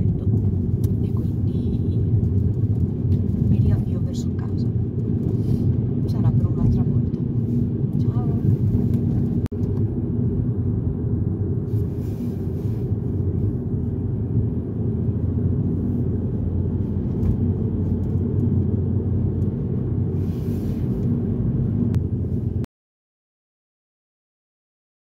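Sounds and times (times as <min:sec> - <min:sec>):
engine and road rumble: 0:00.0 - 0:22.7.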